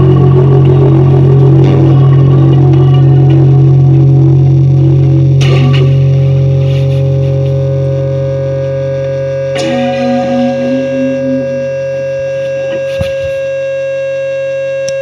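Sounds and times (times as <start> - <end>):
amplified guitar notes: 0.0 - 13.5
steady low drone: 0.0 - 13.6.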